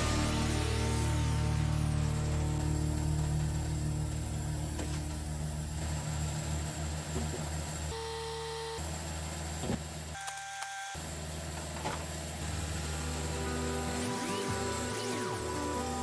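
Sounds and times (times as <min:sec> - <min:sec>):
engine running steadily: 0:00.0 - 0:14.8.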